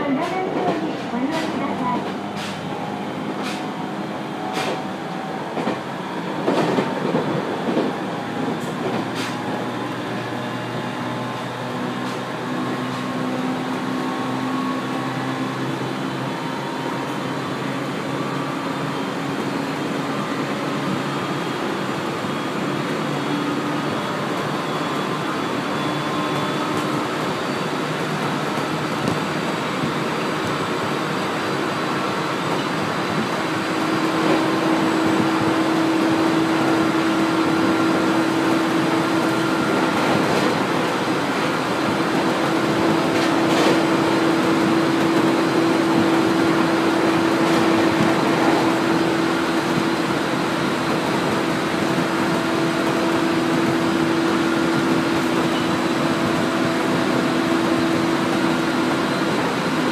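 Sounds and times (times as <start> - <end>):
train wheels running on rails: 0.0 - 59.9.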